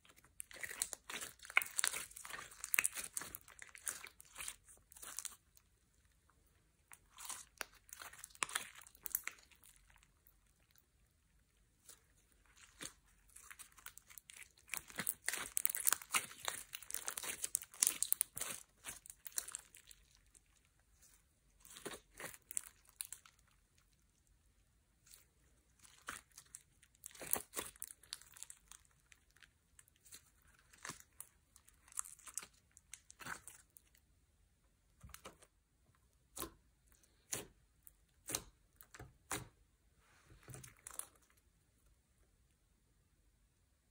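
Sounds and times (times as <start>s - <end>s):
slime crackling and popping: 0.0s - 24.3s, 25.0s - 34.1s, 35.0s - 39.6s.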